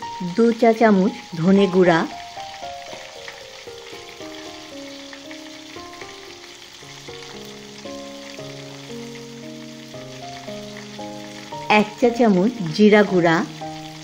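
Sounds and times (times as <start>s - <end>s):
chicken sizzling in hot oil: 0.0s - 14.0s
soft background music: 0.0s - 14.0s.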